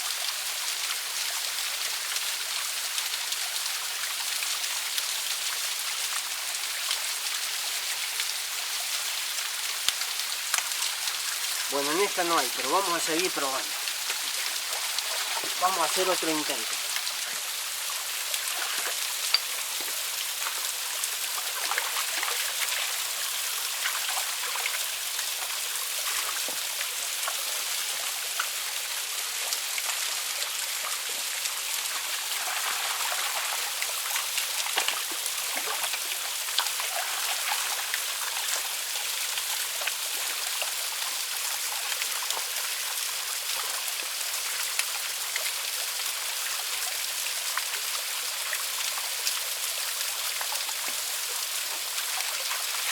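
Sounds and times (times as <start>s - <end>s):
water drips and splashes: 0.0s - 52.9s
waterfall and stream running: 0.0s - 52.9s.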